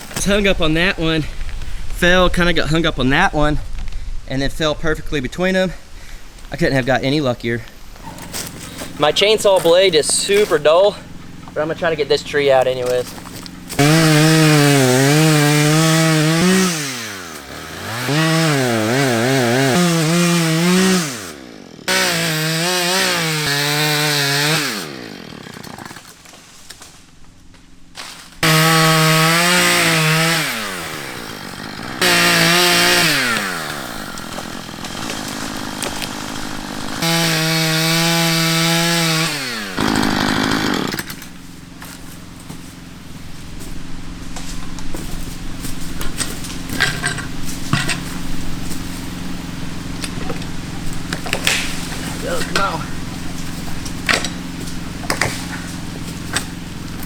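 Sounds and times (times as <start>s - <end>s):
chainsaw revving: 7.9s - 26.2s, 28.2s - 57.0s.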